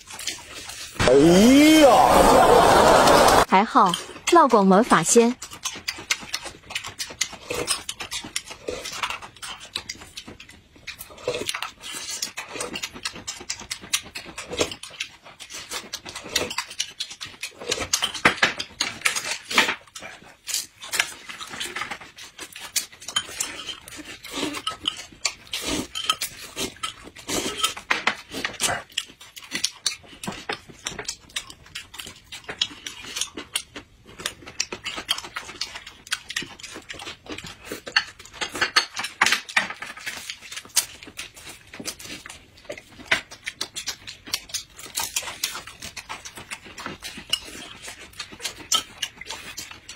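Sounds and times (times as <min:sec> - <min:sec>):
people chewing and lip smacking: 0:00.0 - 0:04.4, 0:05.0 - 0:49.9.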